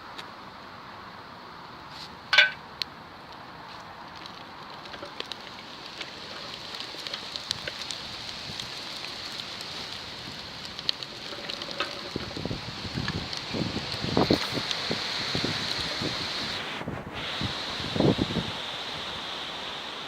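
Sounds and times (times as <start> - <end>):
campfire crackling and popping: 1.6 - 19.0.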